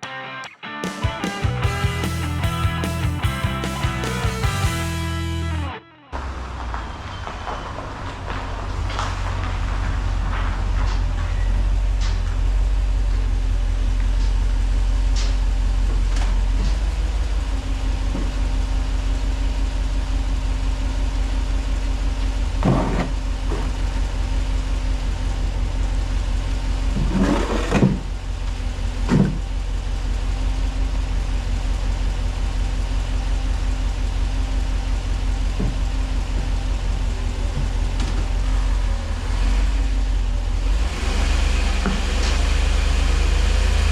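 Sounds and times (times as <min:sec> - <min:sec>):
vehicle engine low rumble: 0:01.5 - 0:43.9.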